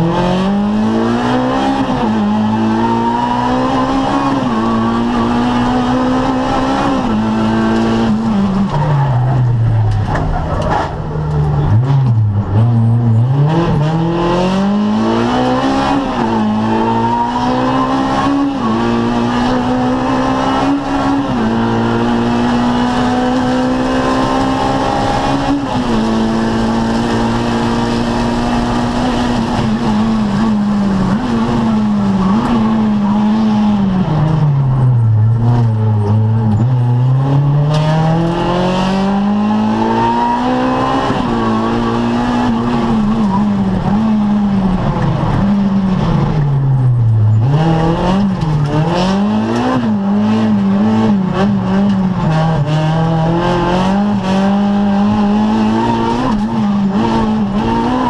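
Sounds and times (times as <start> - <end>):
rally car engine revving through gears: 0.0 - 58.0.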